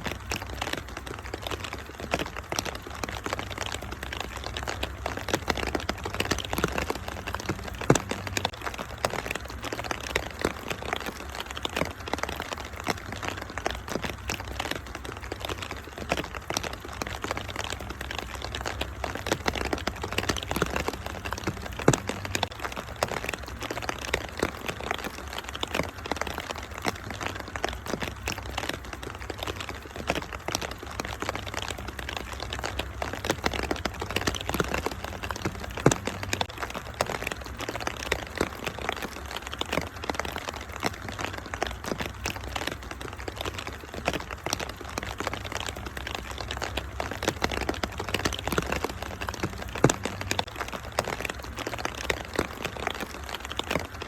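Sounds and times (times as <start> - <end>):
rain hissing: 0.0 - 54.0
wood fire crackling: 0.0 - 54.0.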